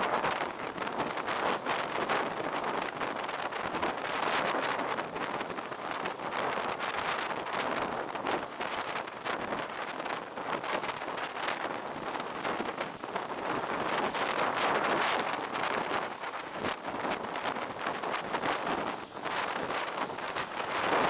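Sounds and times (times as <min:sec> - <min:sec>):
blizzard wind gusting over microphone: 0:00.0 - 0:21.0.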